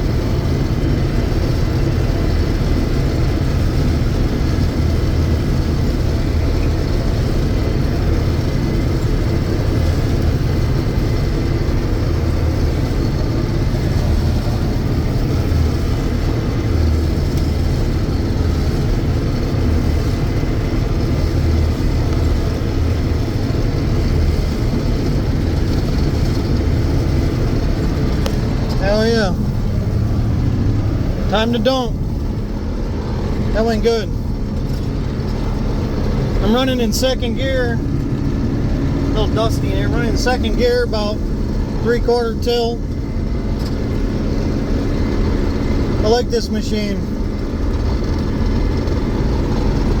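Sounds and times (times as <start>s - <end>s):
combine engine drone: 0.0s - 50.0s
threshing machinery running: 0.0s - 50.0s.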